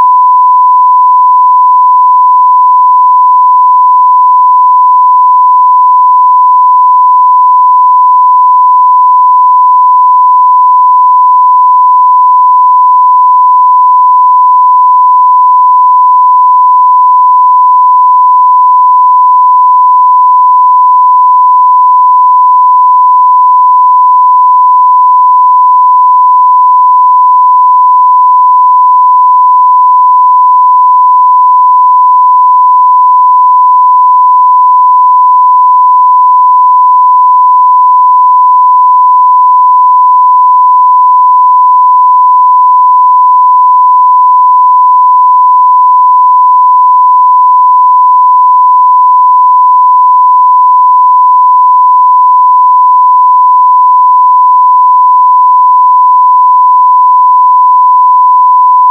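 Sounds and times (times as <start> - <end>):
sine wave test tone: 0.0 - 58.9.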